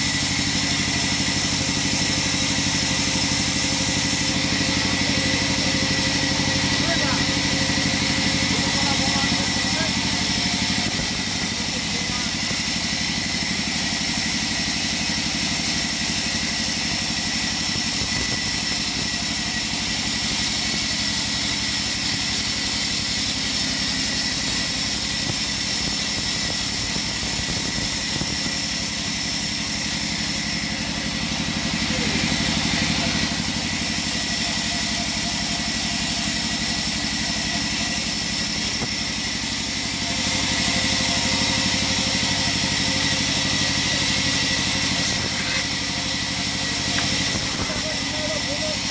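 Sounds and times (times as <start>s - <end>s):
sawmill machinery hum and whine: 0.0s - 48.9s.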